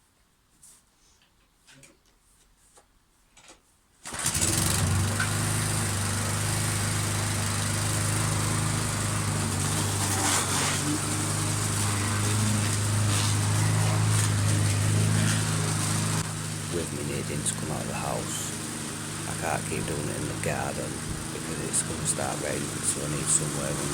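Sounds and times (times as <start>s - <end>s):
lawn mower engine running: 4.0s - 23.9s.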